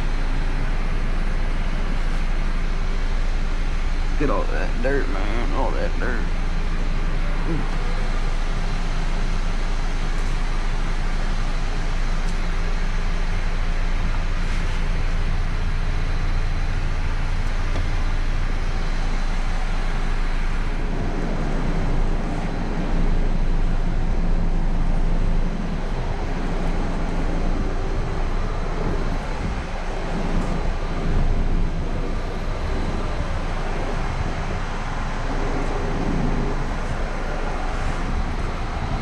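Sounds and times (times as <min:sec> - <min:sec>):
constant rushing noise: 0:00.0 - 0:39.0
low machine hum: 0:00.0 - 0:39.0.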